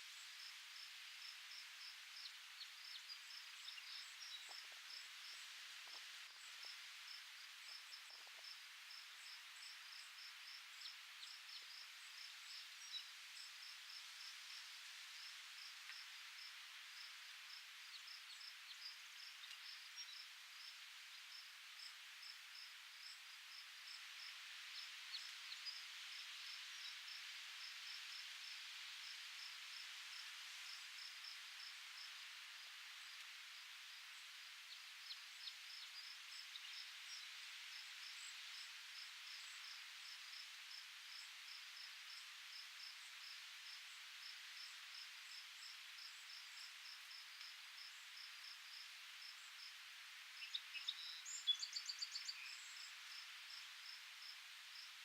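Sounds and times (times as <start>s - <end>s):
insect chirping: 0.1s - 55.0s.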